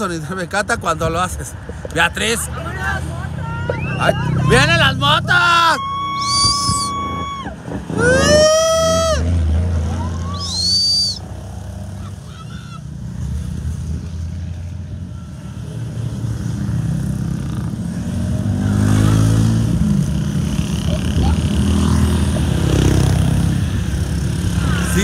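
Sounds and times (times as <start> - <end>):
motorcycle engines passing: 0.0 - 25.0.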